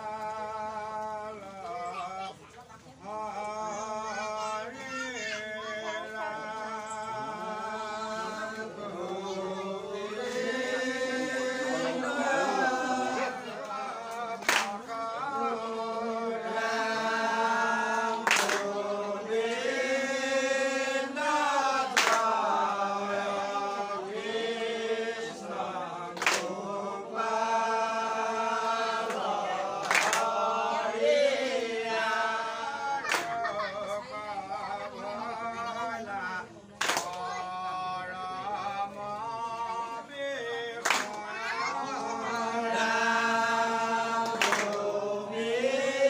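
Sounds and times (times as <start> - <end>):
men singing a devotional chant: 0.0 - 2.4, 3.0 - 46.0.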